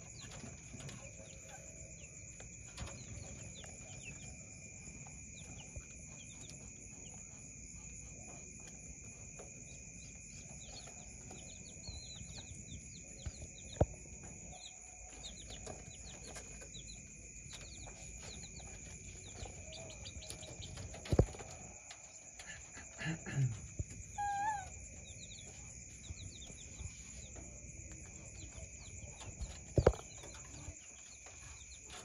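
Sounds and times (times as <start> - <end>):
caged birds chirping: 0.0 - 32.0.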